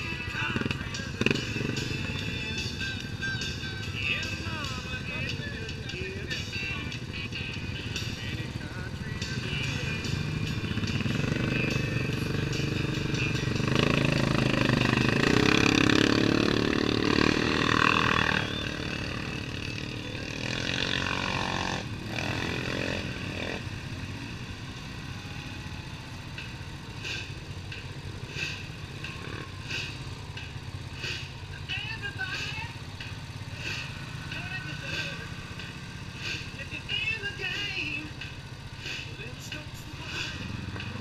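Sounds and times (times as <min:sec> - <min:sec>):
atv engine revving: 0:00.0 - 0:41.0
off-road vehicle engines: 0:00.0 - 0:41.0.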